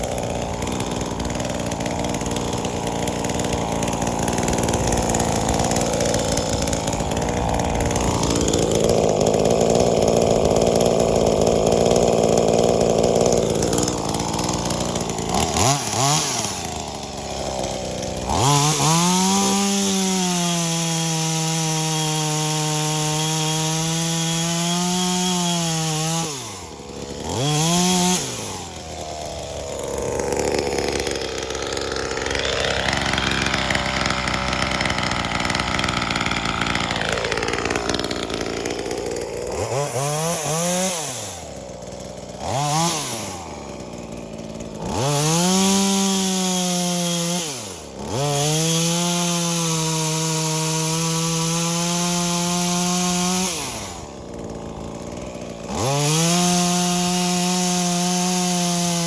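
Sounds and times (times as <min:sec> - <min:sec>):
chainsaw cutting wood: 0:00.0 - 0:59.0
chainsaw revving: 0:00.0 - 0:59.0.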